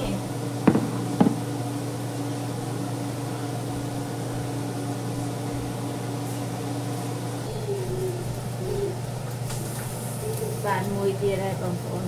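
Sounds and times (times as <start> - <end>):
steady motor hum: 0.0 - 12.0.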